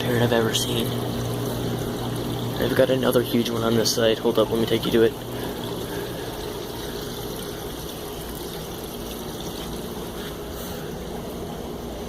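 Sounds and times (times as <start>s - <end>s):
low electrical hum: 0.0s - 12.0s
trickling water: 0.0s - 12.0s.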